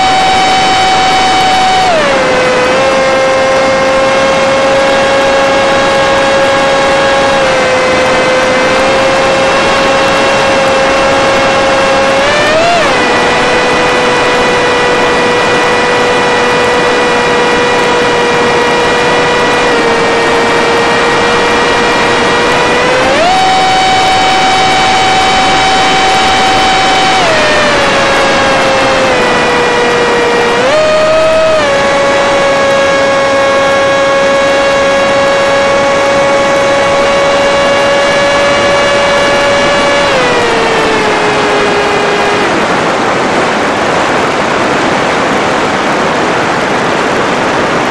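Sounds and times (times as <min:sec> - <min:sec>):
electric model plane motor whining: 0:00.0 - 0:43.0
rushing air noise: 0:00.0 - 0:47.9.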